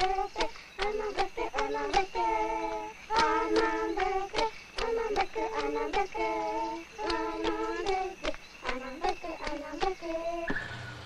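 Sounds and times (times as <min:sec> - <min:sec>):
children singing together: 0:00.0 - 0:10.5.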